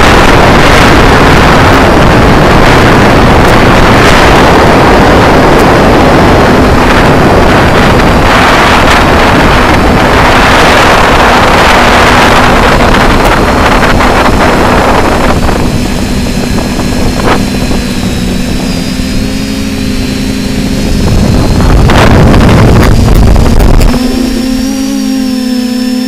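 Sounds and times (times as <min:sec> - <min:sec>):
drone motors humming: 0:00.0 - 0:26.0
thin high whine: 0:00.0 - 0:26.0
wind on microphone: 0:00.0 - 0:26.0.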